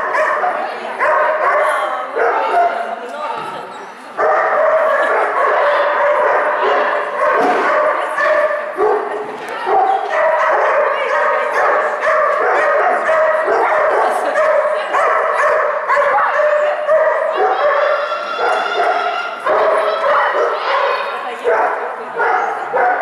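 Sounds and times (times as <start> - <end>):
dogs barking and yipping: 0.0 - 3.0, 4.2 - 23.0.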